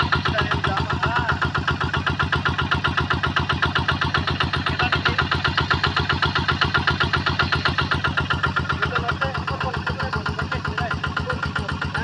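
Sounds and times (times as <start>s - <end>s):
combine harvester engine pulsing: 0.0s - 12.0s.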